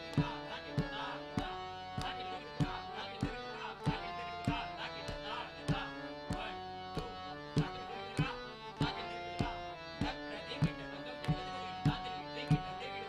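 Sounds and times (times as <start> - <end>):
harmonium playing chords and melody: 0.0 - 13.0.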